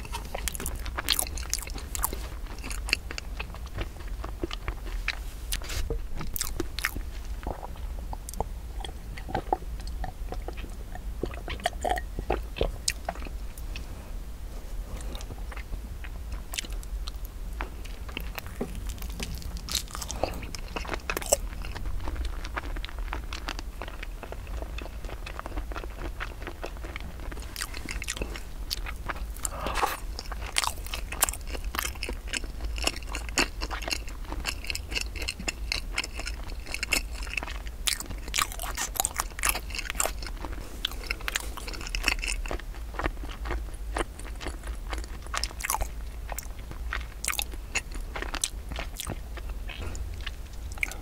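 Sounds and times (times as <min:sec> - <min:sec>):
chewing rice cake: 0:00.0 - 0:13.9, 0:14.9 - 0:51.0.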